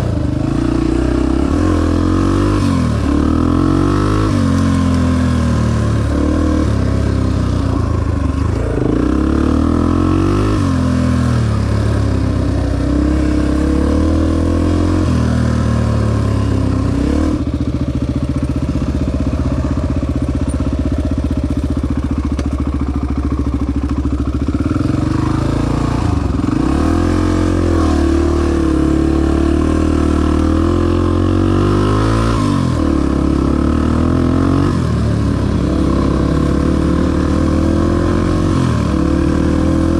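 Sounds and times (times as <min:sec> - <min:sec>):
dirt bike engine revving: 0:00.0 - 0:17.8, 0:23.0 - 0:39.9.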